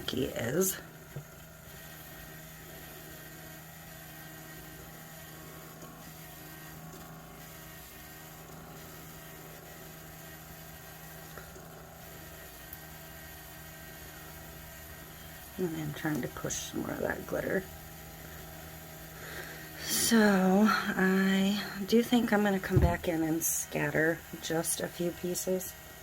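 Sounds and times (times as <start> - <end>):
small electric motor humming: 0.0 - 26.0.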